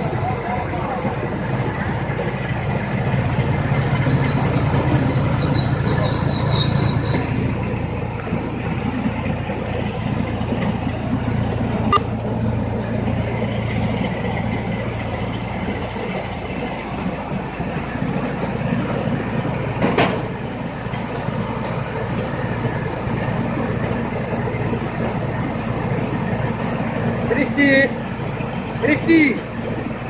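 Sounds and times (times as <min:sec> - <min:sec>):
milling machinery running: 0:00.0 - 0:30.0
tractor engine drone: 0:00.0 - 0:30.0.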